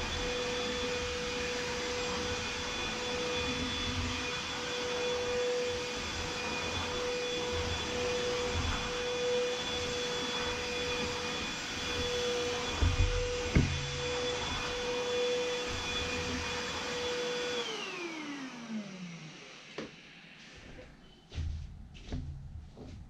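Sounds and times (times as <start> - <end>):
vacuum cleaner running: 0.0 - 22.1.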